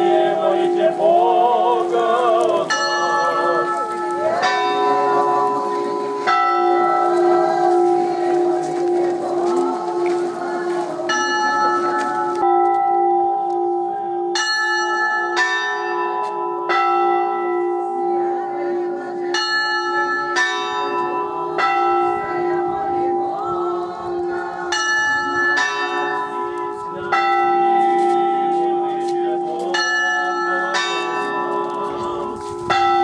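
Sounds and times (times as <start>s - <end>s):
church bells ringing: 0.0s - 33.0s
steady low bell tone: 0.0s - 33.0s.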